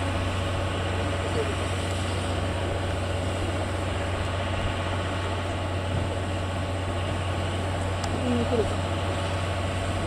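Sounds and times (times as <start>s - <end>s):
low machinery hum: 0.0s - 10.0s
steam hissing: 0.0s - 10.0s.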